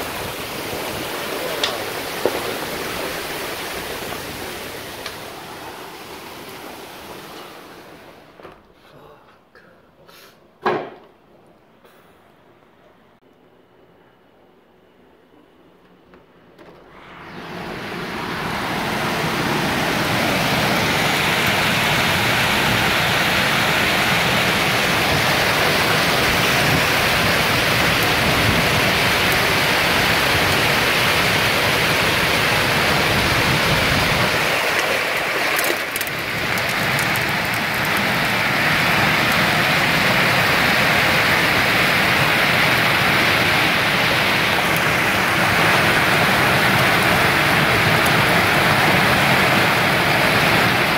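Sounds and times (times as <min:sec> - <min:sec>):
hail and rain pelting down: 0:00.0 - 0:08.2, 0:17.5 - 0:50.9.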